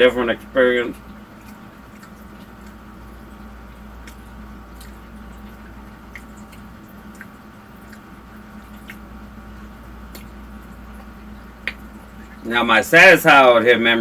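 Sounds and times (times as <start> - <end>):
steady low hum: 0.0 - 14.0
person chewing food: 0.1 - 12.5.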